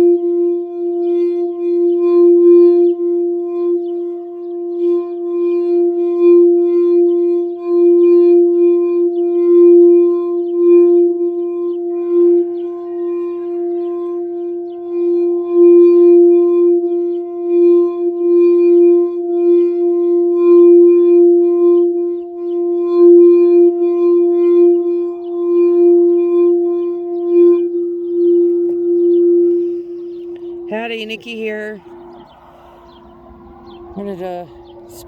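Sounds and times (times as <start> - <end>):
singing bowl ringing: 0.0 - 35.0.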